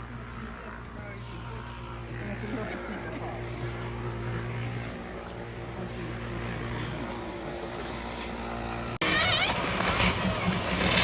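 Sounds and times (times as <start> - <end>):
steady engine hum: 0.0 - 11.0.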